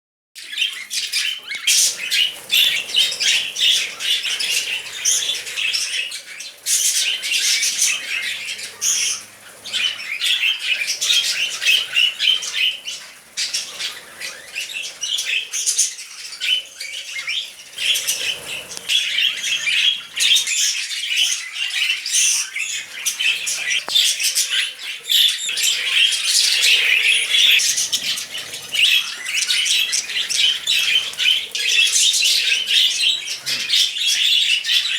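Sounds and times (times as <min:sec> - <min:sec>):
budgerigars chattering: 0:00.4 - 0:34.9.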